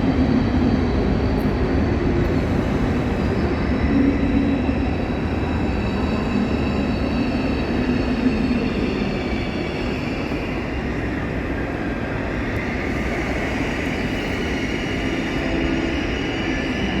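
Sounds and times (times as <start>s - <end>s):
train rumble: 0.0s - 17.0s
faint high whining tones: 0.5s - 17.0s.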